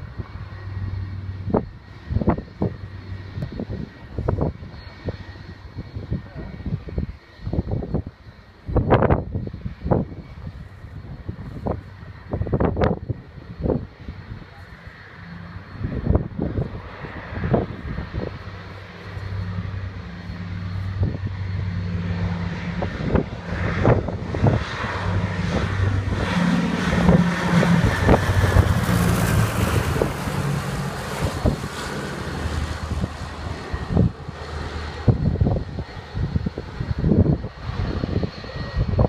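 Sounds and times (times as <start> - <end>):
propeller plane droning overhead: 0.0 - 39.0
wind buffeting microphone: 0.0 - 39.0.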